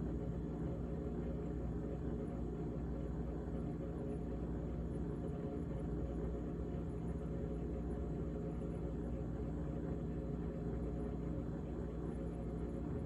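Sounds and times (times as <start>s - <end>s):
refrigerator hum: 0.0s - 13.0s.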